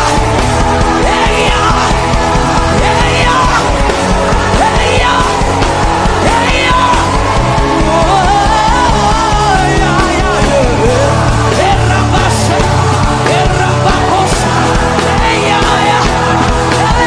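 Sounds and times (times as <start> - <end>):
gospel worship band music: 0.0 - 17.0.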